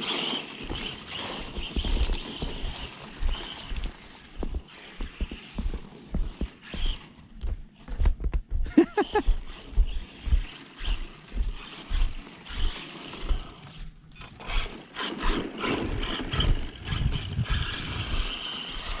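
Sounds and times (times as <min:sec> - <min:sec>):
electric rc truck motor: 0:00.0 - 0:07.9, 0:09.0 - 0:19.0.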